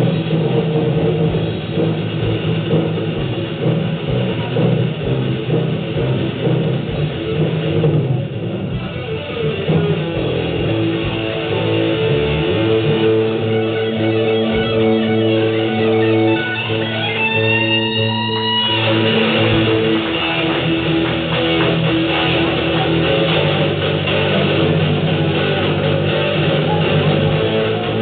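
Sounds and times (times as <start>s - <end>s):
live band with electric guitar: 0.0s - 28.0s.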